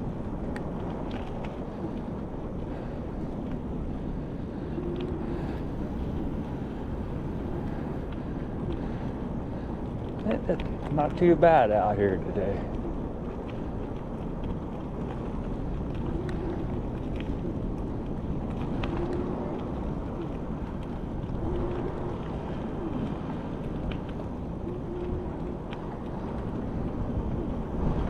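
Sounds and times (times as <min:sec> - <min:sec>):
wind and rolling noise: 0:00.0 - 0:28.0.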